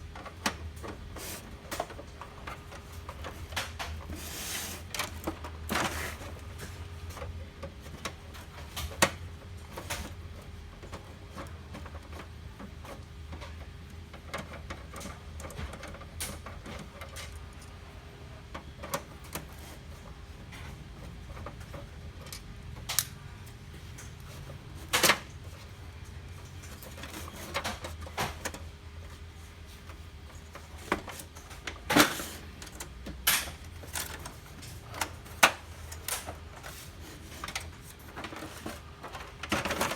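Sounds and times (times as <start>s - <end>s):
plastic printer parts clicking: 0.0s - 39.9s.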